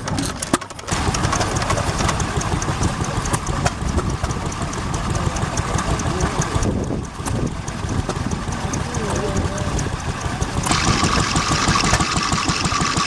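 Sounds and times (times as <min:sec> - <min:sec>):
engine idling: 0:00.0 - 0:13.0
regular engine ticking: 0:00.0 - 0:13.0.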